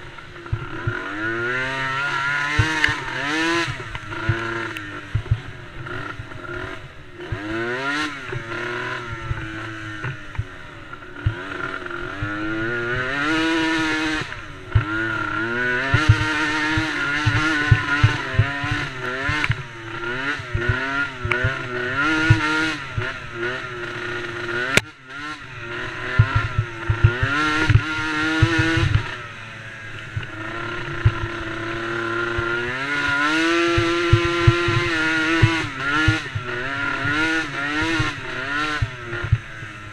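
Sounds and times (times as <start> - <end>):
quad engines revving: 0.0 - 39.9.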